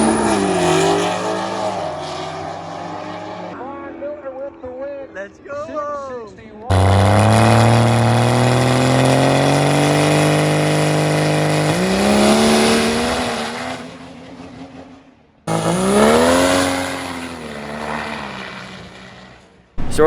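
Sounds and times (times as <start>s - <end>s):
truck passing by: 0.0s - 3.8s, 6.7s - 20.0s
diesel truck accelerating: 0.0s - 5.3s, 6.6s - 20.0s.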